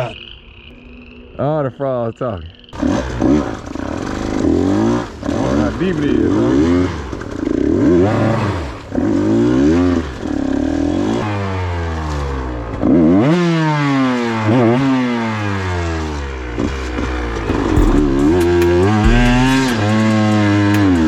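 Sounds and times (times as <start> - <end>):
dirt bike engine revving: 2.8 - 21.0.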